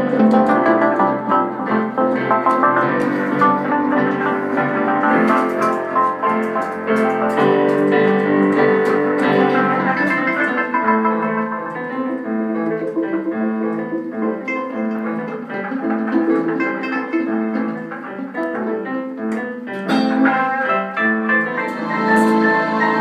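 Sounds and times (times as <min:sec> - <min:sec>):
improvised instrumental music: 0:00.0 - 0:23.0
keyboard chords: 0:00.0 - 0:23.0.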